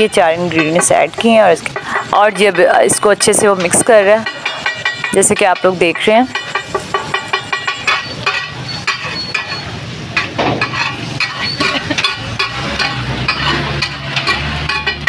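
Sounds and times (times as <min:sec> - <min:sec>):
masala frying in oil: 0:00.0 - 0:15.0
steel spatula scraping iron pan: 0:00.0 - 0:15.0.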